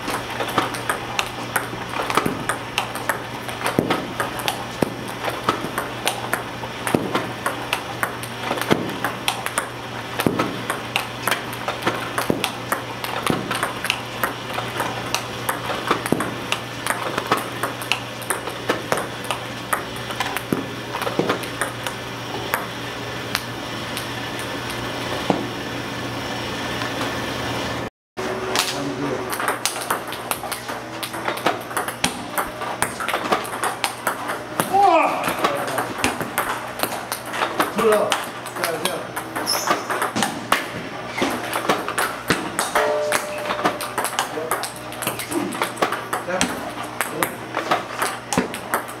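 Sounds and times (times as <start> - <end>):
table tennis ball clicks: 0.1 - 22.6, 29.3 - 34.7, 35.4 - 40.7, 41.3 - 49.0.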